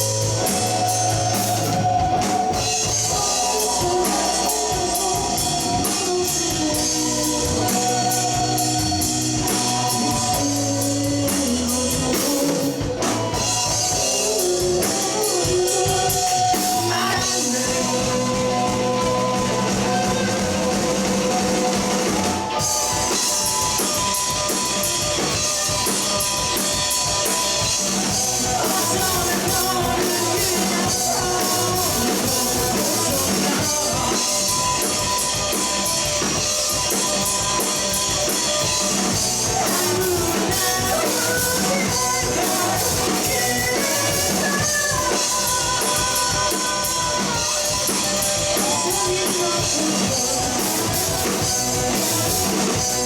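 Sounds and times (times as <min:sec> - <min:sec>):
rock band playing live: 0:00.0 - 0:53.0.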